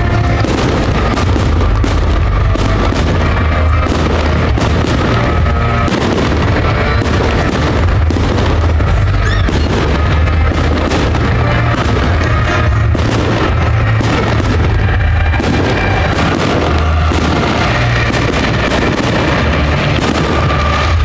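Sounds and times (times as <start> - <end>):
fireworks booming: 0.0 - 21.0
fireworks crackling: 0.0 - 21.0
music playing: 0.0 - 21.0.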